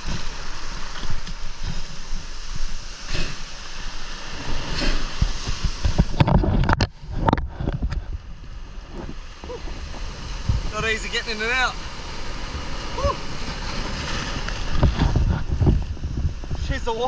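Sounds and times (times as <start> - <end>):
surf washing over rocks: 0.0 - 17.0
whitewater splashing: 0.0 - 17.0.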